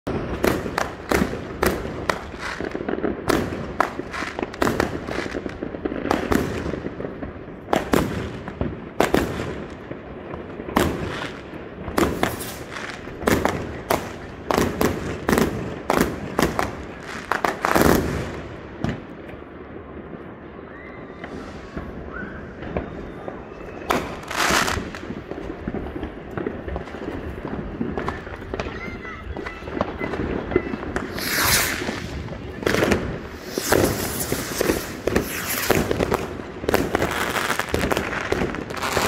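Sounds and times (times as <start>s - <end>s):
fireworks sharp bangs: 0.0s - 39.0s.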